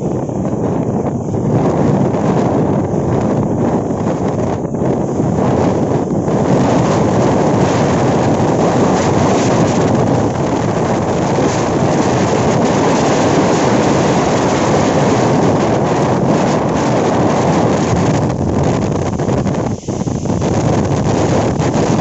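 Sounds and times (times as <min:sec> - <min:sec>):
choppy water churning: 0:00.0 - 0:22.0
wind blowing across microphone: 0:00.0 - 0:22.0.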